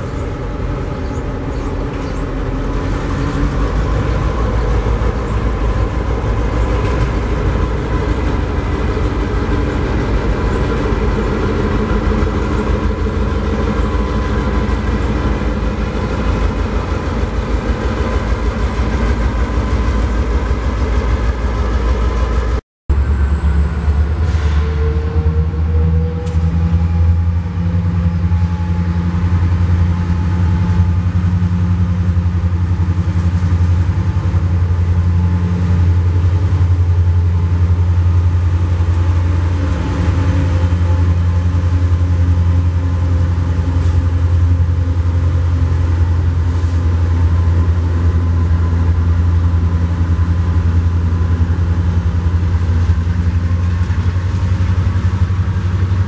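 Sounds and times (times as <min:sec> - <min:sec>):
freight cars rolling past: 0:00.0 - 0:56.0
locomotive engine drone: 0:00.0 - 0:56.0.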